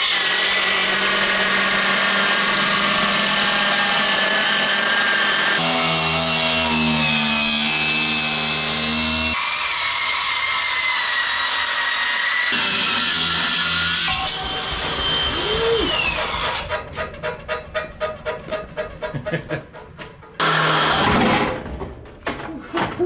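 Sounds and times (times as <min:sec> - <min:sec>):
power tools whining: 0:00.0 - 0:17.5, 0:20.4 - 0:21.4.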